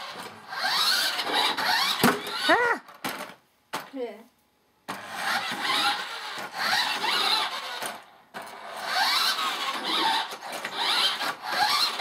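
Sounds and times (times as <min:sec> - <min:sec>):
toy truck motor whining: 0:00.0 - 0:02.7, 0:04.9 - 0:12.0.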